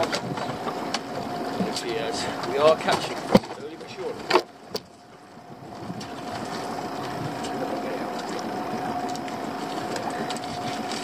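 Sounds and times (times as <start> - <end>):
motor hum with whine: 0.0 - 11.0.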